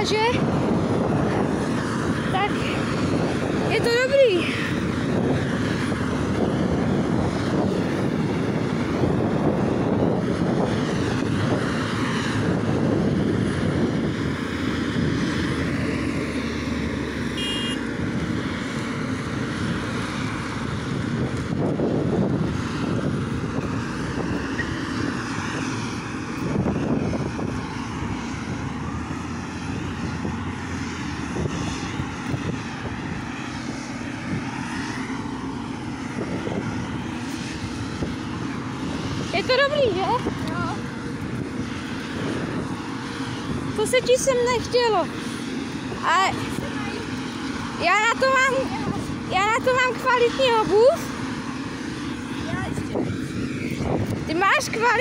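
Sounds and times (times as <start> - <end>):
heavy engine drone: 0.0 - 55.0.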